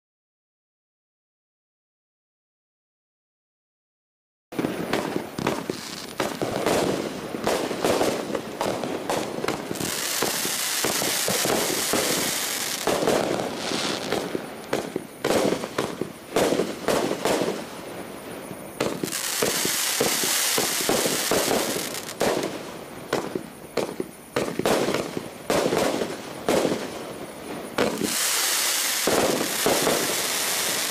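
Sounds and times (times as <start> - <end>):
dense hissing of firework effects: 4.6 - 30.9
firework aerial bursts: 4.6 - 30.9.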